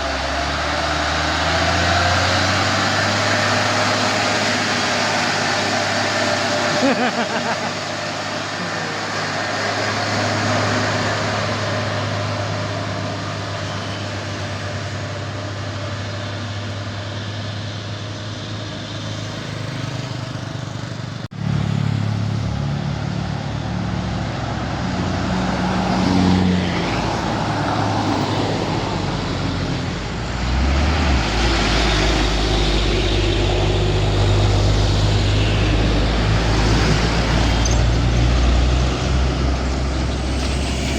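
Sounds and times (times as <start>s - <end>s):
deep loud engine: 0.0s - 40.9s
truck engines running: 0.0s - 40.9s.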